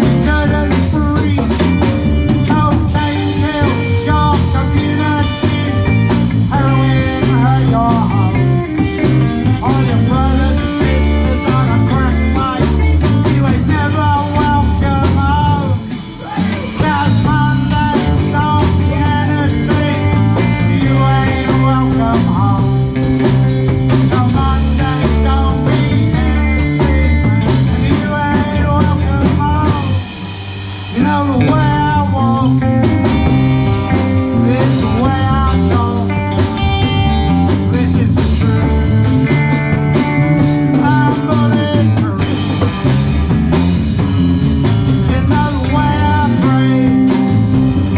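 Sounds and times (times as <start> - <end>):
blues-rock band playing: 0.0 - 47.9
electric guitar bending notes: 0.0 - 47.9.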